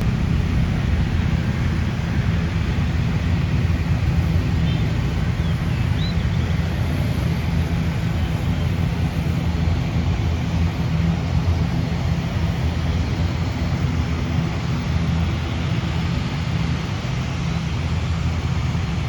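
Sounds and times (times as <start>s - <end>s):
large vehicle engine rumbling: 0.0s - 19.0s.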